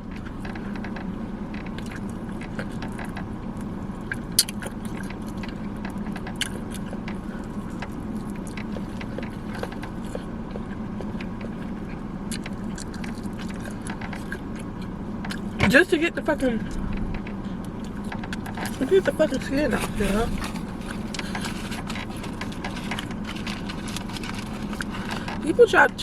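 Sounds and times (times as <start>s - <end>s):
biting and chewing: 0.0s - 15.7s, 16.6s - 25.6s
car interior hum: 0.0s - 26.0s.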